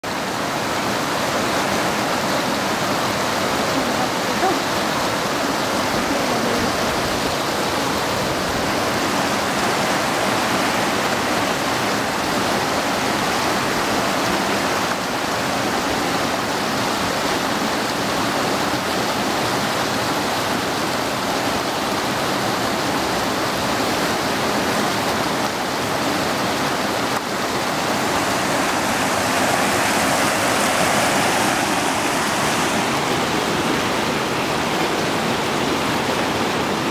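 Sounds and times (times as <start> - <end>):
river rushing over rocks: 0.0 - 36.9.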